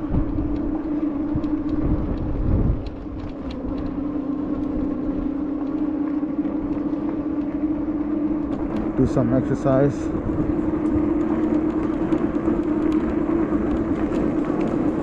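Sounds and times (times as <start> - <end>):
electric bike motor hum: 0.0 - 15.0
wind rumble on microphone: 0.0 - 15.0.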